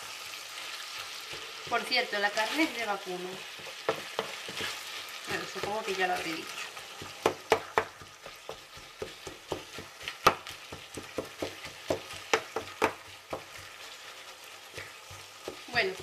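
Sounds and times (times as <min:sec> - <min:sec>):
meat sizzling in a pan: 0:00.0 - 0:16.0
wooden spatula scraping pan: 0:01.0 - 0:16.0.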